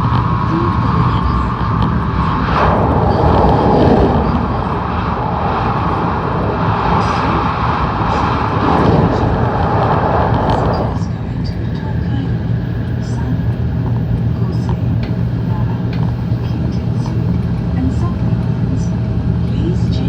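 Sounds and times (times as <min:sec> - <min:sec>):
rushing air: 0:00.0 - 0:19.2
train rumble inside cabin: 0:00.0 - 0:20.0
wheels on rail: 0:00.0 - 0:20.0.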